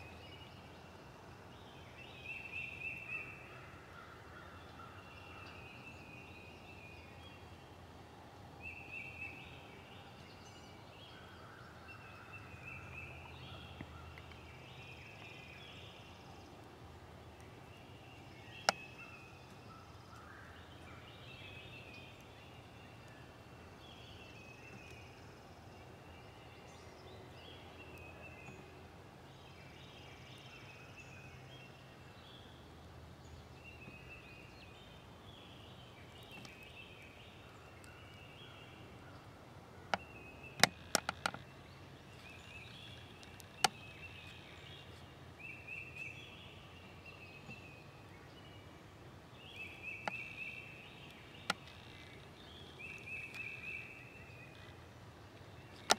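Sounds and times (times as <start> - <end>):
hush of woods: 0.0 - 55.9
songbirds chirping: 0.0 - 55.9.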